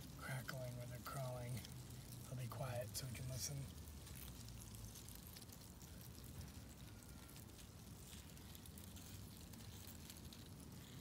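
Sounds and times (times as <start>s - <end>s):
cicada nymphs crawling on dry leaves: 0.0s - 11.0s.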